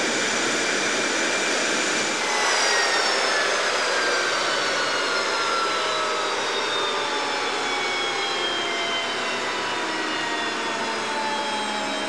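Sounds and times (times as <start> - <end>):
jet engine winding down: 0.0 - 12.0.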